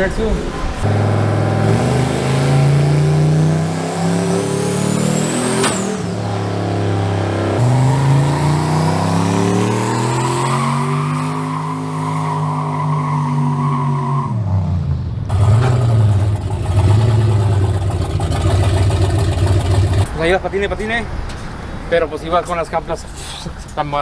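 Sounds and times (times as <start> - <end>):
truck engine revving: 0.0 - 22.1.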